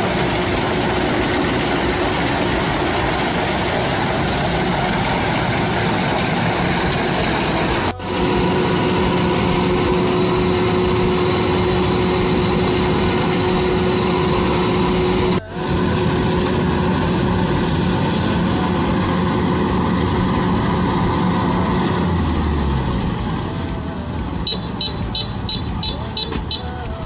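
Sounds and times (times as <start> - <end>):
combine harvester machinery drone: 0.0 - 27.0
steady hum: 0.0 - 27.0.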